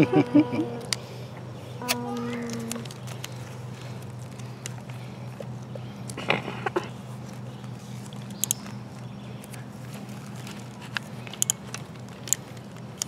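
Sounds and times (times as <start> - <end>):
steady low hum: 0.0 - 13.0
tape clicks and crinkles: 1.8 - 13.0.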